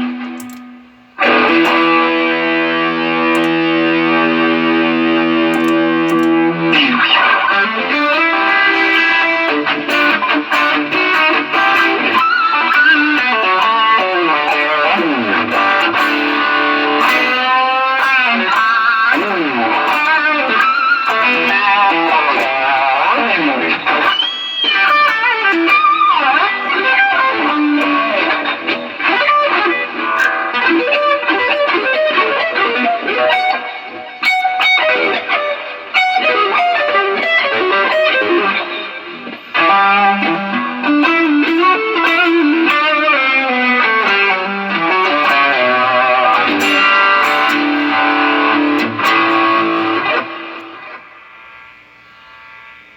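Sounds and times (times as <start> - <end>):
distorted electric guitar: 0.0 - 52.9.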